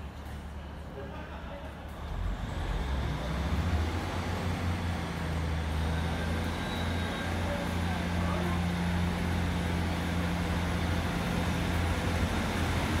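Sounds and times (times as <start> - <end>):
train diesel engines droning: 0.0 - 13.0.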